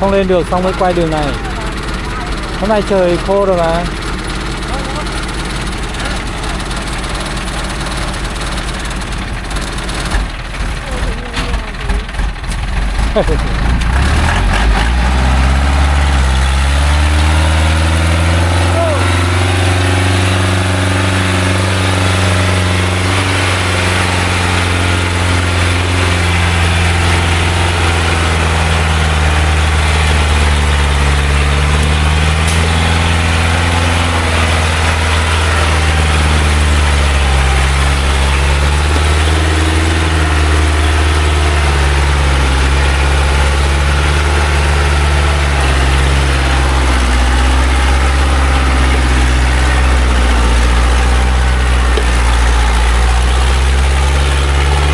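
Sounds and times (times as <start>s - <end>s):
truck engine under load: 0.0s - 54.9s.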